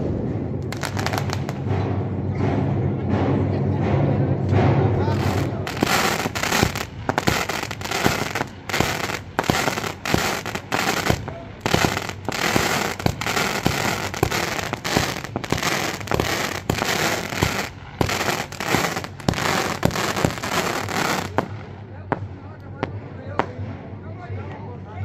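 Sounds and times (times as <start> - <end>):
fireworks bangs and crackling: 0.0 - 2.7, 4.5 - 23.9.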